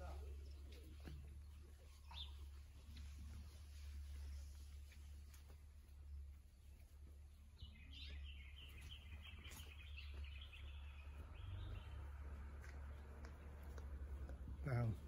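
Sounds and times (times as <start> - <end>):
small birds twittering: 0.0 - 15.0.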